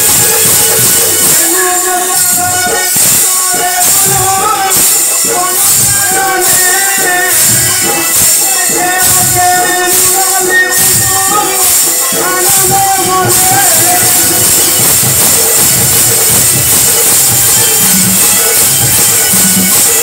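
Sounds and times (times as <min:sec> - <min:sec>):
folk music melody: 0:00.0 - 0:20.0
jingling strikes: 0:00.0 - 0:20.0
steady percussion: 0:00.0 - 0:20.0.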